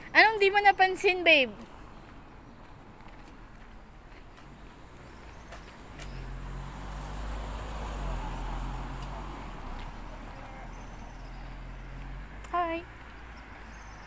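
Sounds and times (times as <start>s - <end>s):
vehicle engine hum: 1.4s - 14.0s.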